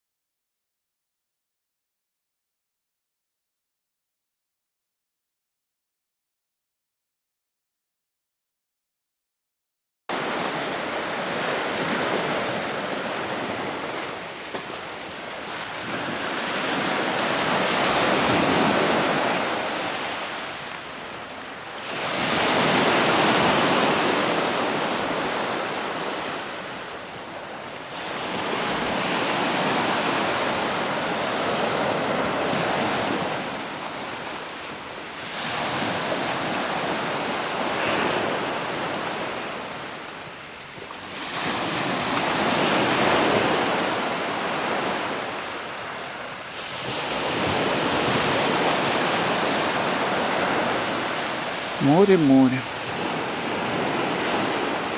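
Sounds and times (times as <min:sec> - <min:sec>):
surf waves breaking: 0:10.1 - 0:54.9.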